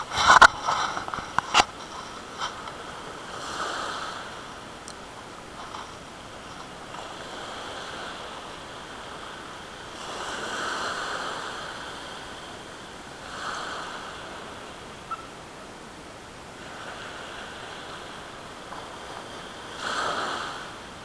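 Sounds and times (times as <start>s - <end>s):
sea waves breaking on shore: 0.0s - 21.0s.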